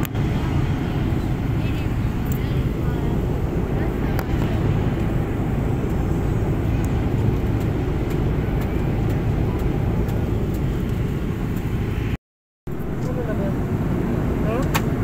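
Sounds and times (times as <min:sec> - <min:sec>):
jet cabin engine and airflow rush: 0:00.0 - 0:15.0.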